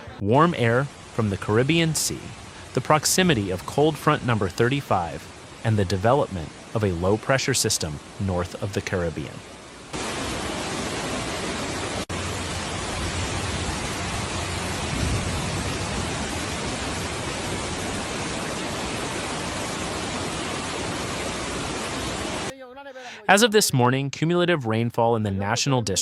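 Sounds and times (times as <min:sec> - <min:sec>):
heavy rainstorm water noise: 0:00.0 - 0:22.5.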